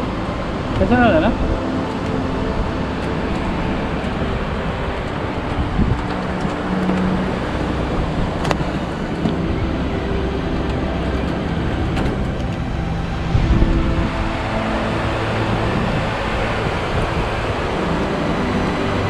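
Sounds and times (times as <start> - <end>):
white-water river rushing: 0.0 - 19.0.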